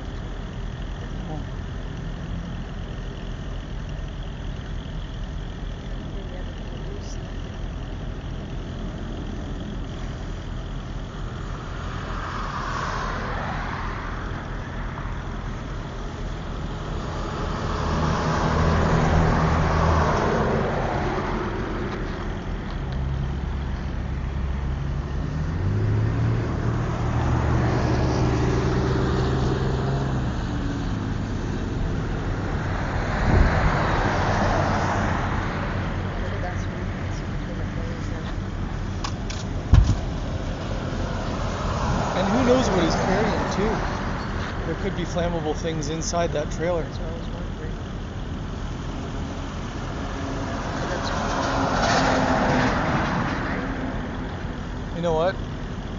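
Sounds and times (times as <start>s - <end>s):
heavy engine low drone: 0.0s - 55.9s
vehicles passing by: 0.0s - 55.9s.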